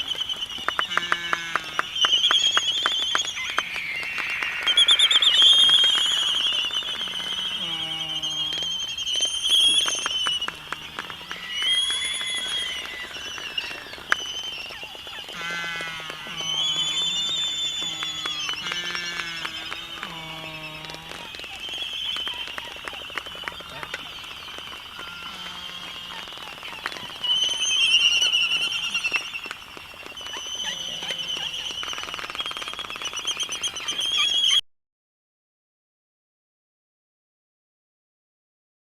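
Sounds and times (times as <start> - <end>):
high whistled bird calls: 0.0 - 34.6
low buzzy bird call: 0.0 - 34.6.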